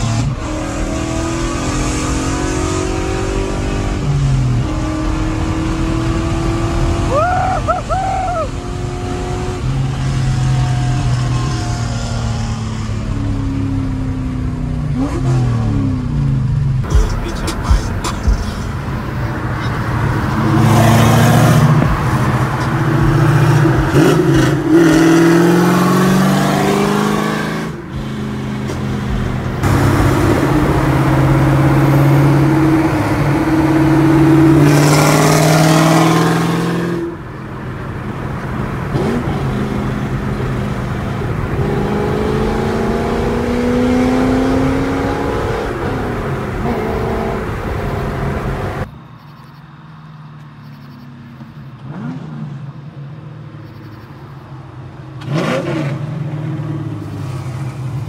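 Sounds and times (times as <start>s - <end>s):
loud car exhaust at full throttle: 0.0s - 48.9s.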